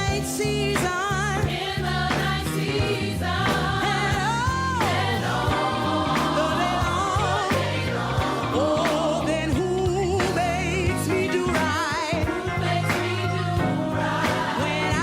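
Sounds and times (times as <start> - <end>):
band with steady bass: 0.0 - 15.0
gospel singers with vibrato: 0.0 - 15.0.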